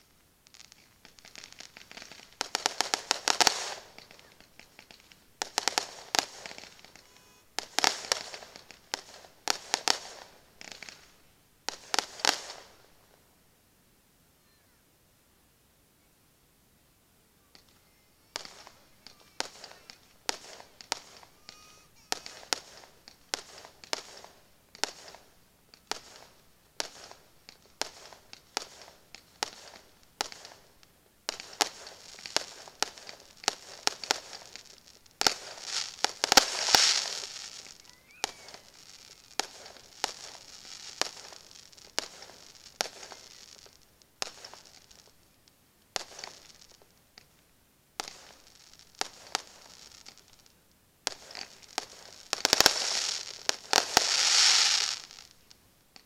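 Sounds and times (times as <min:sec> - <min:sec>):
fireworks bursting and crackling: 0:00.0 - 0:13.4, 0:17.4 - 0:56.0.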